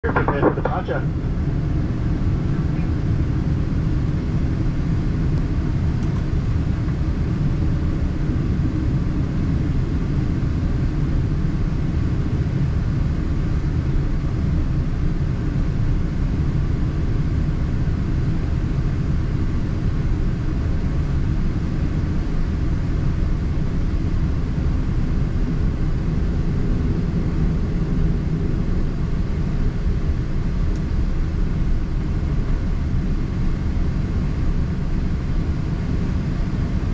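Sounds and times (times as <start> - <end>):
airplane cabin rumble while taxiing: 0.0 - 36.9.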